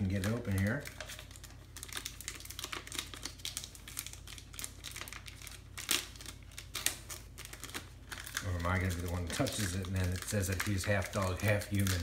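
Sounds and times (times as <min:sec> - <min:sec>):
paper wrapper crinkling: 0:00.0 - 0:12.0.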